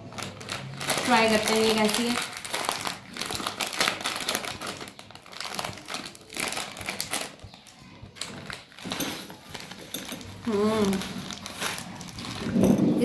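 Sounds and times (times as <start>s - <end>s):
plastic snack packet crinkling: 0.0s - 13.0s.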